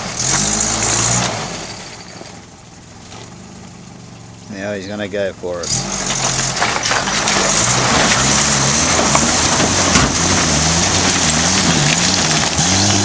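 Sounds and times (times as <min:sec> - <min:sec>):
pickup engine revving under load: 0:00.0 - 0:13.0
rocks crunching under tyres: 0:00.2 - 0:13.0.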